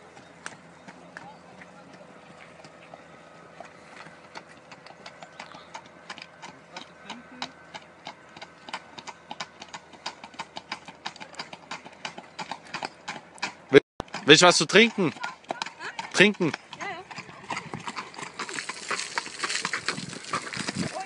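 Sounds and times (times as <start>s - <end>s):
horse hooves trotting on asphalt: 0.0s - 21.0s.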